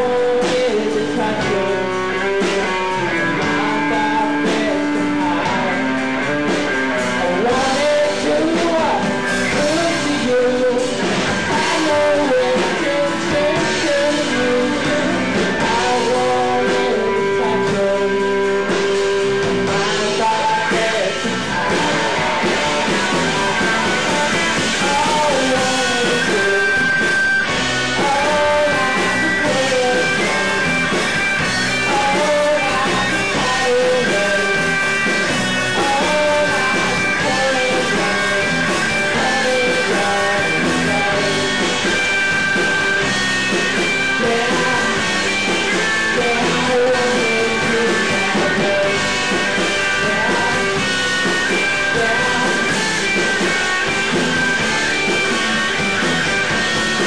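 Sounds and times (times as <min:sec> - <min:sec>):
man singing: 0:00.0 - 0:27.1, 0:27.8 - 0:42.0, 0:43.8 - 0:53.0
rock band playing: 0:00.0 - 0:57.0.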